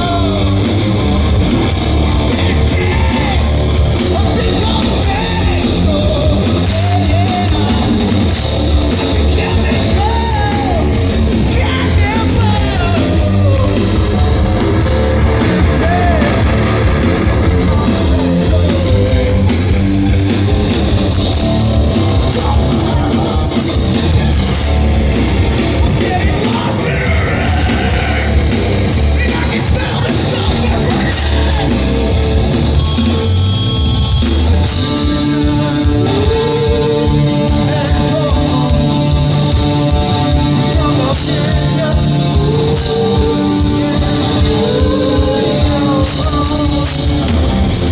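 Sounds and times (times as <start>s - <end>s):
heavy rock band playing: 0.0s - 47.9s
sung and yelled vocals: 0.0s - 47.9s.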